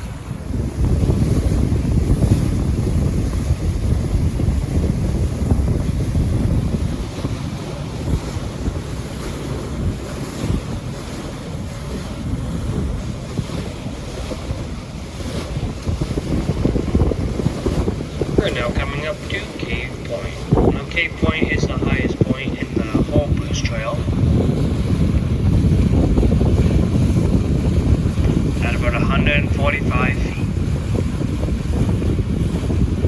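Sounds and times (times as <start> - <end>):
water rushing against hull: 0.0 - 33.0
wind buffeting microphone: 0.0 - 33.0.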